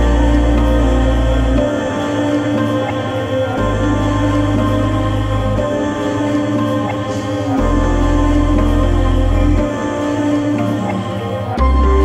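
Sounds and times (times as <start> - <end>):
slow sustained music tones: 0.0 - 12.0.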